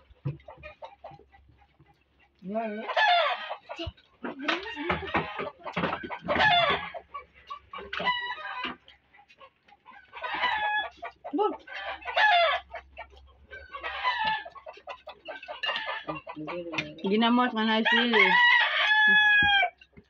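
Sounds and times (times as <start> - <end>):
chickens clucking and crowing: 0.0 - 20.0.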